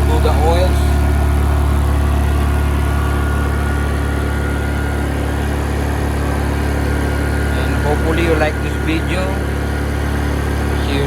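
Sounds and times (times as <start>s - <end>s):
generator engine humming: 0.0s - 11.0s.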